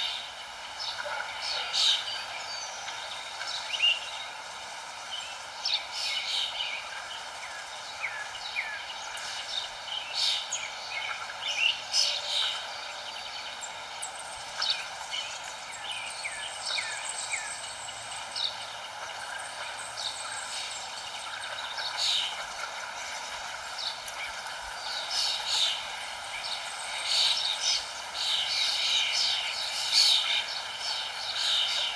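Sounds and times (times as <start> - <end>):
outdoor background hiss: 0.0 - 31.9
small songbirds chirping: 0.0 - 31.9.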